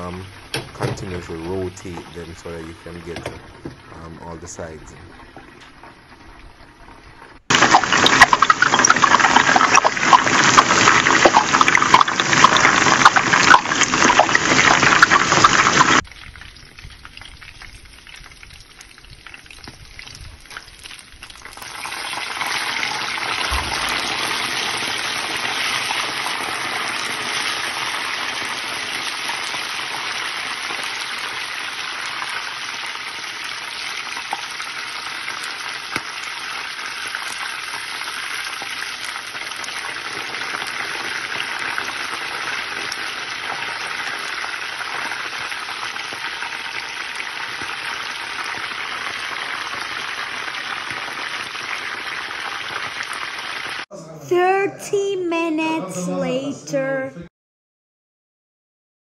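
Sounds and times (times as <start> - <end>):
poultry frying in hot oil: 5.2 - 53.8.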